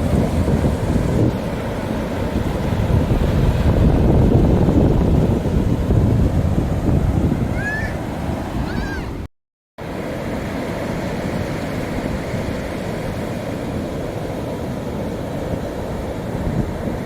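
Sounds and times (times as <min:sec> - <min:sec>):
wind buffeting microphone: 0:00.0 - 0:09.3, 0:11.9 - 0:17.0.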